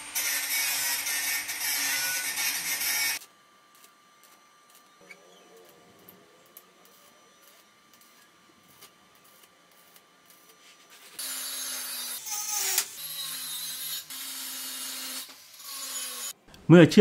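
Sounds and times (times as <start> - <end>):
angle grinder whining on steel: 0.0 - 3.2, 3.8 - 16.4
arc welding crackle: 0.0 - 16.4.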